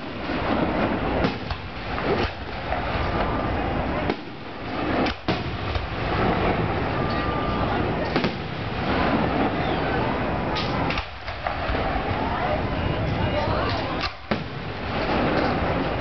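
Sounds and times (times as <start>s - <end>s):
crowd voices: 0.0s - 16.0s
fireworks booming: 0.0s - 16.0s
sharp fireworks bangs: 0.0s - 16.0s.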